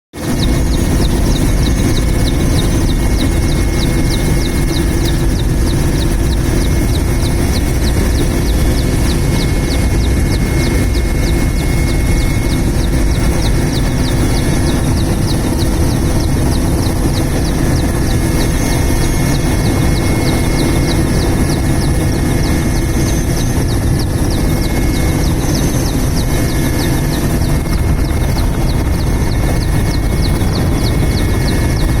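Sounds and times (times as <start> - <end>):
helicopter engine and rotor: 0.1 - 32.0
fast even ticking: 0.2 - 32.0.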